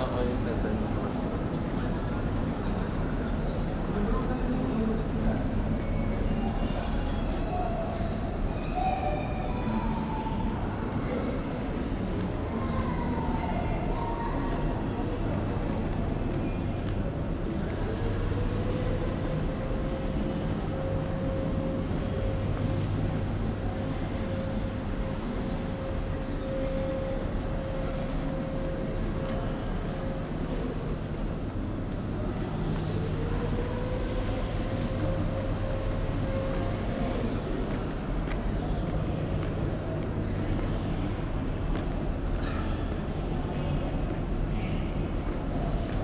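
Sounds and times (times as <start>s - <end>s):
mechanical hum and rumble: 0.0s - 46.0s.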